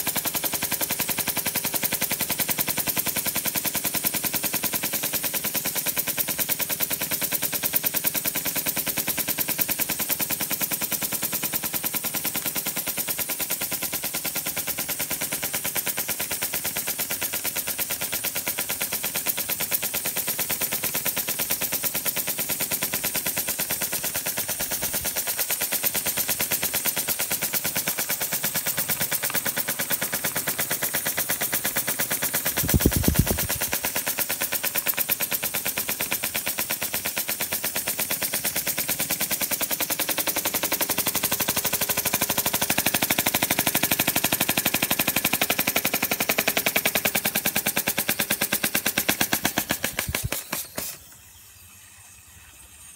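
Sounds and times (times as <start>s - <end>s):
model steam engine chuffing: 0.0s - 52.9s.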